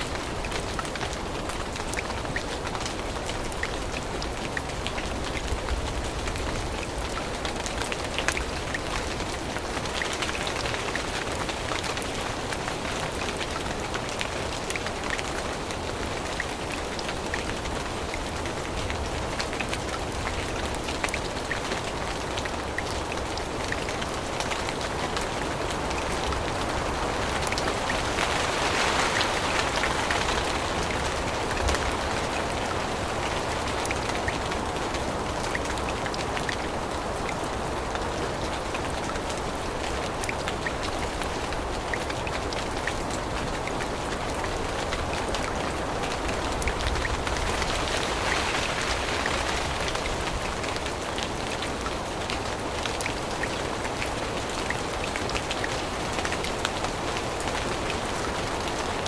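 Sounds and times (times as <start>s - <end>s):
rain pattering on leaves: 0.0s - 59.0s.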